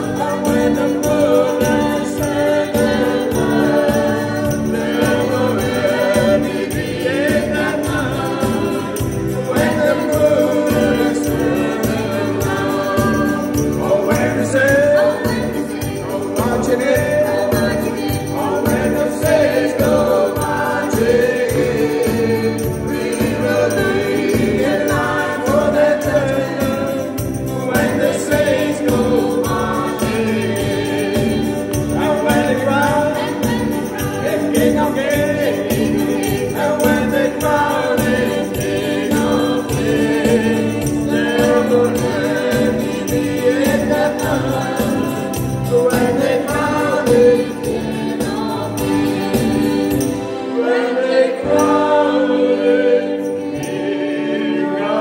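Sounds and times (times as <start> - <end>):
small mixed choir singing: 0.0 - 55.0.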